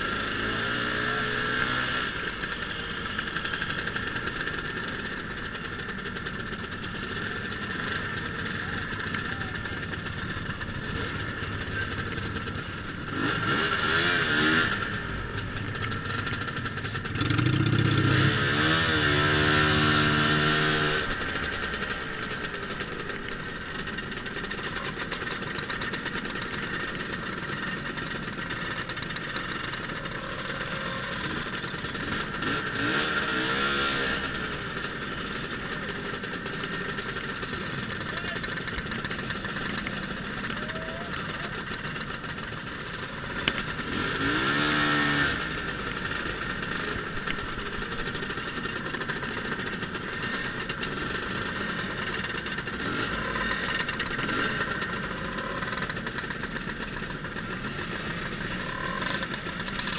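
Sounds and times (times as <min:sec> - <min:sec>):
motor scooter engines running: 0:00.0 - 0:59.9
scooter engine revving: 0:00.0 - 0:59.9.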